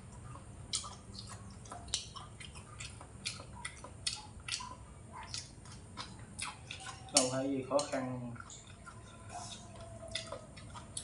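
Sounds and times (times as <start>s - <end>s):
person chewing with wet smacks: 0.0s - 11.0s.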